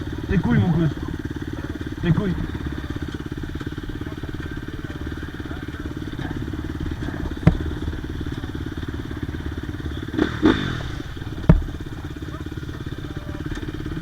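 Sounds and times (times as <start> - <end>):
two-stroke engine running: 0.0 - 14.0.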